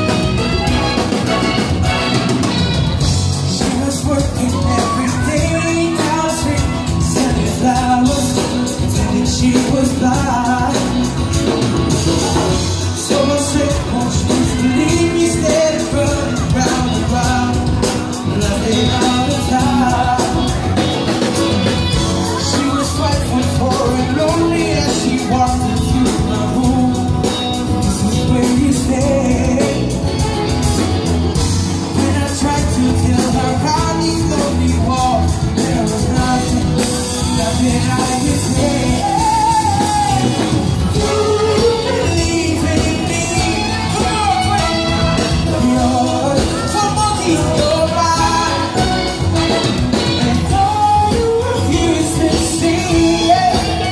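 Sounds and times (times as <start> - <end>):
drums: 0.0 - 53.9
live band playing: 0.0 - 53.9
person singing: 0.0 - 53.9.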